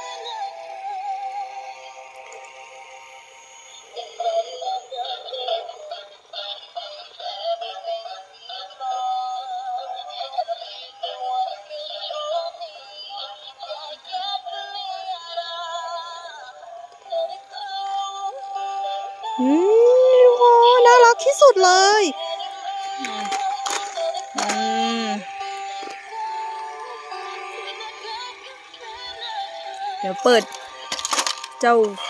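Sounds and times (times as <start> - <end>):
toy playing electronic song: 0.0 - 32.0.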